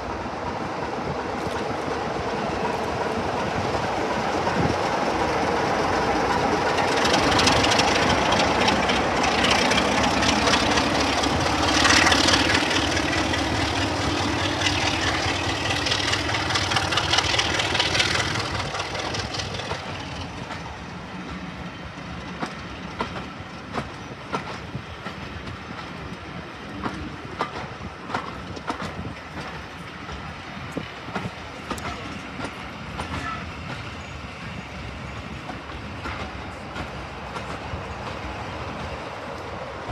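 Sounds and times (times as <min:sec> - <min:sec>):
diesel locomotive engine passing: 0:00.0 - 0:39.9
wheels clicking over rail joints: 0:01.1 - 0:26.2, 0:26.8 - 0:34.2, 0:35.0 - 0:39.6.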